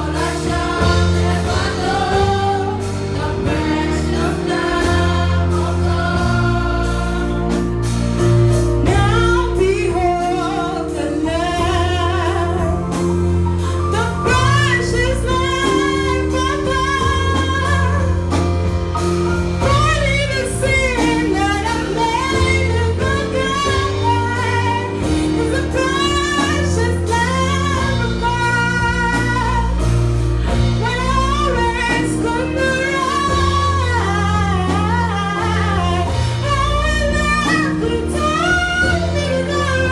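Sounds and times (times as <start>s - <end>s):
gospel singing with vibrato: 0.0s - 39.9s
held bass notes: 0.0s - 39.9s.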